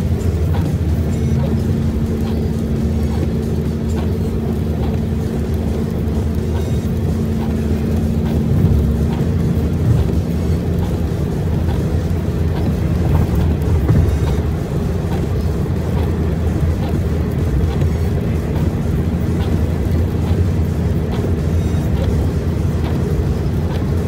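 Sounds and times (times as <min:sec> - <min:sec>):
vehicle driving on wet road: 0:00.0 - 0:24.0.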